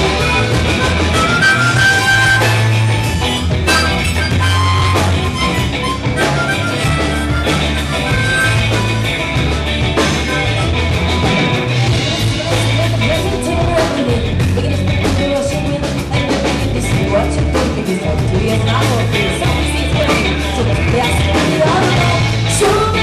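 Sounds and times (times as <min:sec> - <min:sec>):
bass guitar: 0:00.0 - 0:23.0
drum kit: 0:00.0 - 0:23.0
electric guitar: 0:00.0 - 0:23.0.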